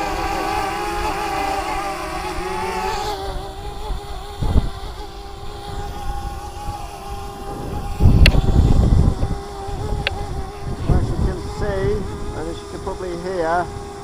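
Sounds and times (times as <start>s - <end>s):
drone propellers whining: 0.0s - 14.0s
wind buffeting microphone: 0.0s - 14.0s.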